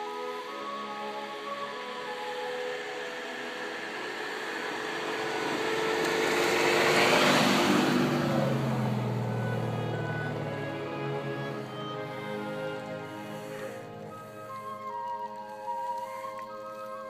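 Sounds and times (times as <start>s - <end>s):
vehicle engine passing: 0.0s - 15.3s
hiss of snow from tyres: 0.0s - 17.0s.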